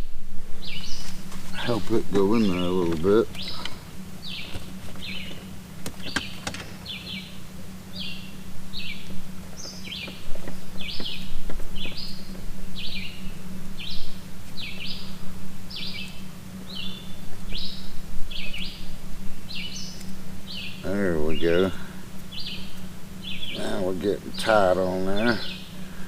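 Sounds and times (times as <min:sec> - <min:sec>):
bird chirping: 0:00.0 - 0:25.8
low hum: 0:00.0 - 0:26.0.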